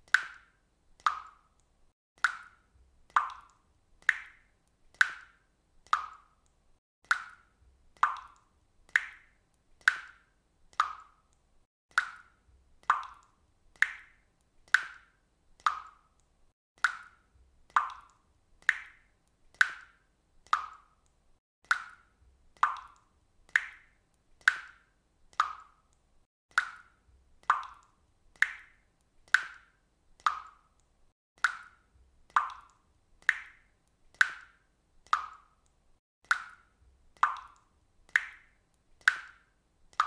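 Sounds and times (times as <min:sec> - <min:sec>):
water dripping from faucet: 0:00.0 - 0:40.0.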